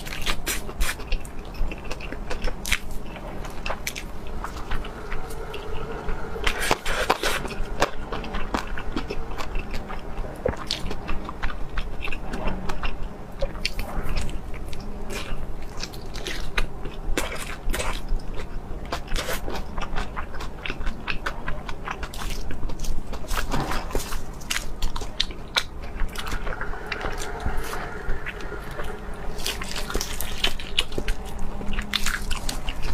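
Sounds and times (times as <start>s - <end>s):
chewing crunchy food: 0.0s - 32.9s.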